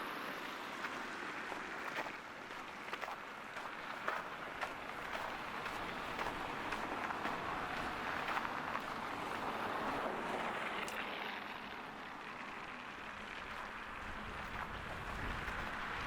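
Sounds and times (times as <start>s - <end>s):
street ambience rushing noise: 0.0s - 16.0s.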